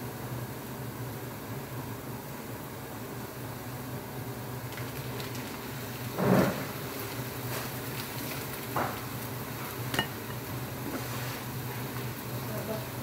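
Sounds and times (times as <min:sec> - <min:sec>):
meat frying in a pan: 0:00.0 - 0:13.0.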